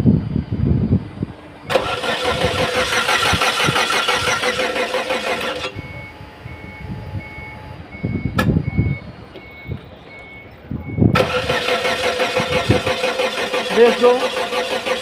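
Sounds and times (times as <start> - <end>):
car engine cranking: 1.1 - 15.0.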